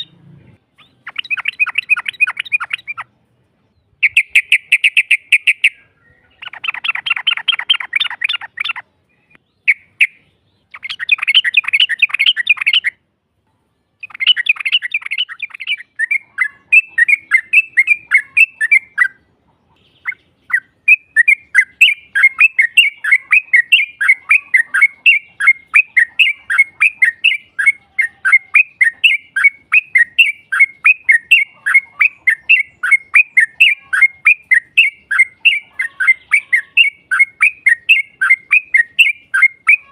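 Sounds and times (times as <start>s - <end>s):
bulbul chattering trills: 0.0s - 3.1s, 4.0s - 8.8s, 14.0s - 39.9s.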